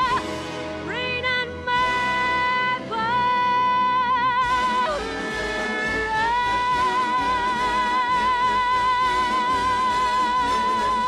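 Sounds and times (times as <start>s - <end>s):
orchestral accompaniment: 0.0s - 11.0s
woman singing a long high note: 1.0s - 11.0s.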